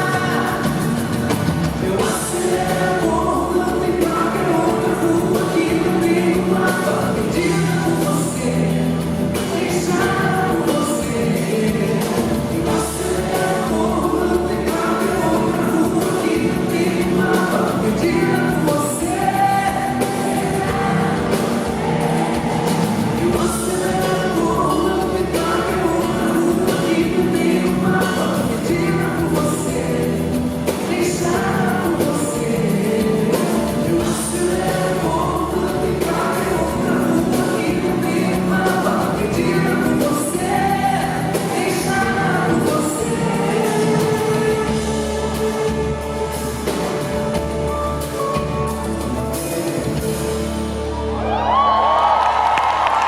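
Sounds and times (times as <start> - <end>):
people singing: 0.0 - 47.4
bass notes: 0.0 - 53.0.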